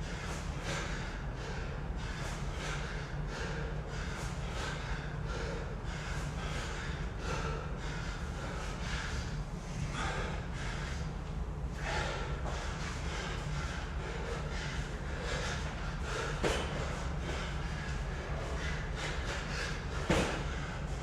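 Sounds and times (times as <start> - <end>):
person breathing hard and fast: 0.0 - 21.0
steady low rumble: 0.0 - 21.0.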